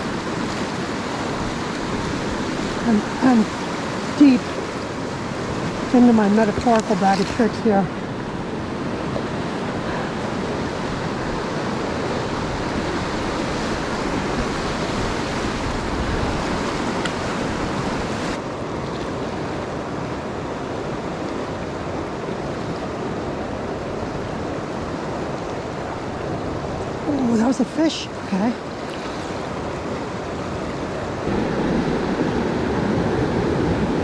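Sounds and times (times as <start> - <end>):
creek water rushing: 0.0 - 34.0.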